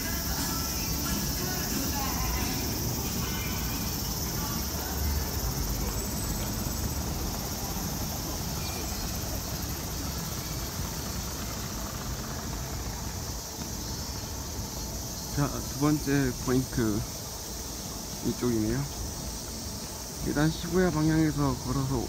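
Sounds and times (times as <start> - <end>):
cicadas buzzing: 0.0 - 22.0
low rumble of road traffic: 0.0 - 22.0.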